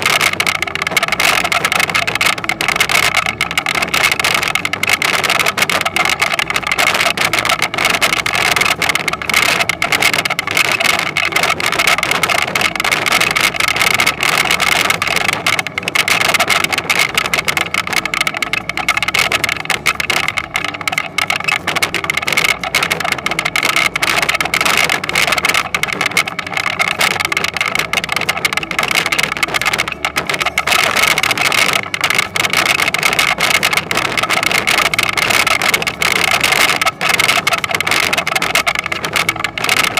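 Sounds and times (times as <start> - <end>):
mechanical clatter: 0.0 - 39.9.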